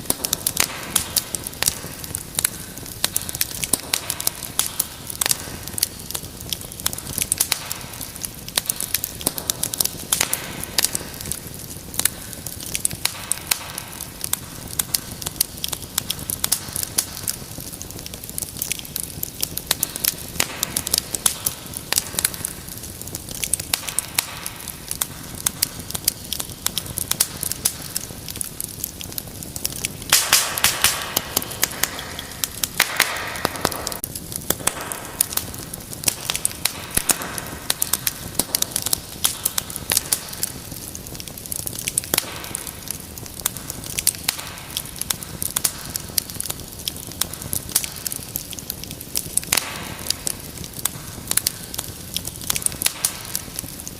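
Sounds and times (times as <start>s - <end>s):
fireplace fire crackling: 0.0s - 53.9s.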